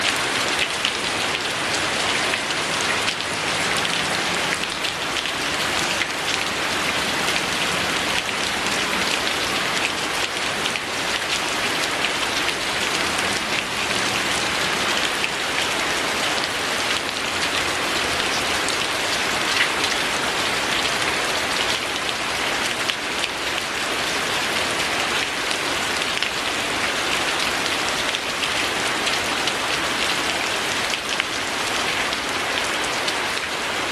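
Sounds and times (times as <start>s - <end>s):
gentle rain falling: 0.0s - 33.9s.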